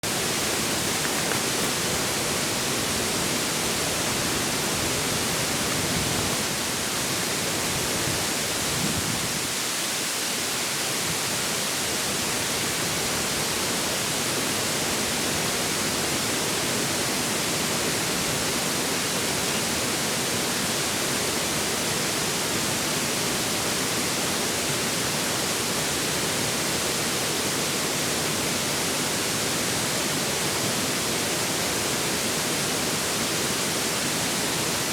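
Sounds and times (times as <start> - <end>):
river water rushing: 0.0 - 34.9
wind: 0.0 - 34.9.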